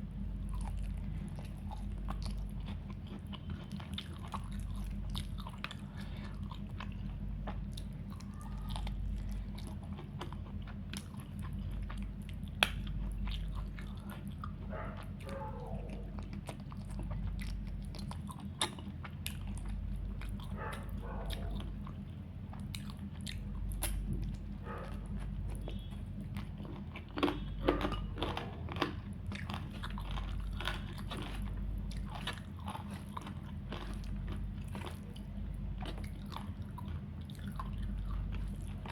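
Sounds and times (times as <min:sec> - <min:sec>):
person chewing food: 0:00.0 - 0:38.9
steady low hum: 0:00.0 - 0:38.9.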